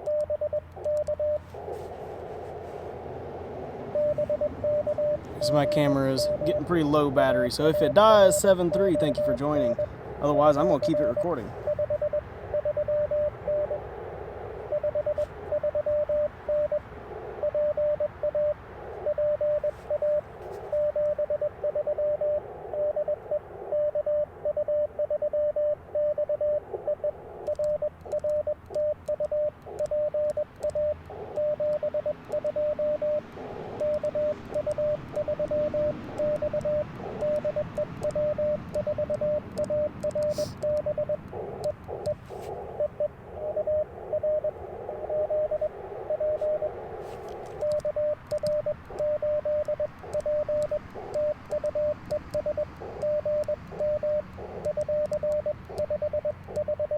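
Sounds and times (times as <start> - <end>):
morse code tone: 0.0 - 2.8, 3.9 - 56.9
faint radio signals: 0.0 - 56.9
receiver hiss: 0.0 - 56.9.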